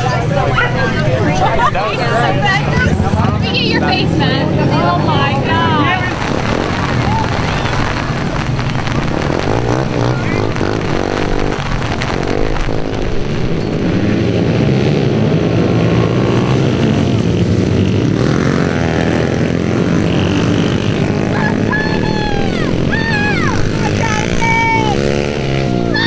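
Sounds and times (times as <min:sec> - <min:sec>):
pit bike engines revving: 0:00.0 - 0:26.0.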